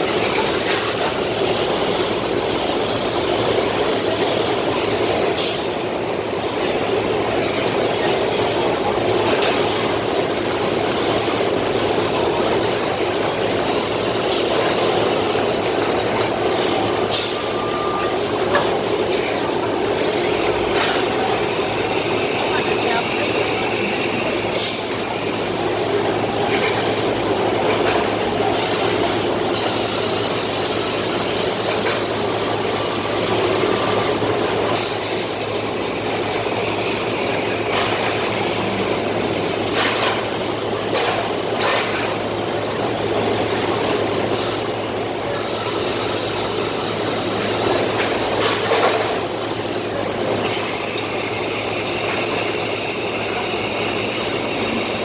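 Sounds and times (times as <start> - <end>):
machinery rushing noise: 0.0 - 42.3, 42.9 - 55.0.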